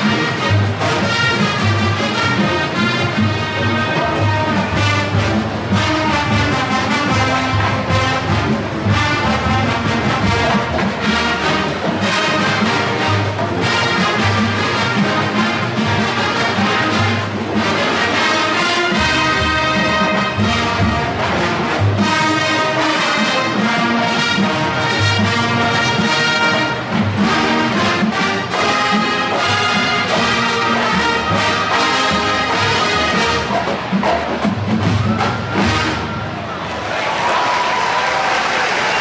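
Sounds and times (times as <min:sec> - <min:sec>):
low brass and drums: 0:00.0 - 0:38.0
brass marching band playing: 0:00.0 - 0:39.0.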